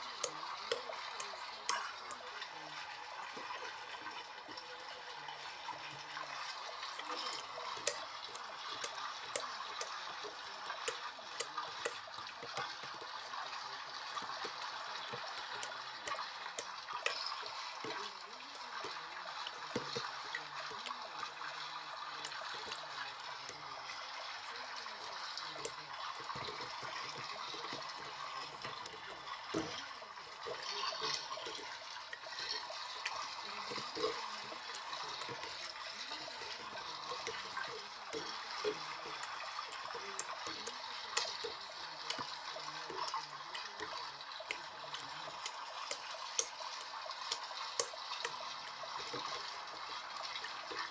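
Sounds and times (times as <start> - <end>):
water moving in washing machine: 0.0 - 50.9.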